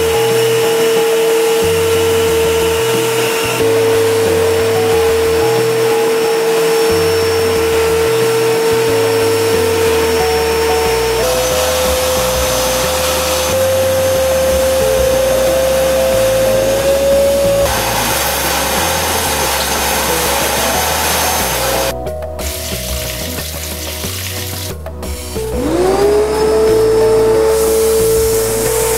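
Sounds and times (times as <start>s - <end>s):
vacuum cleaner running: 0.0s - 23.5s, 25.2s - 28.9s.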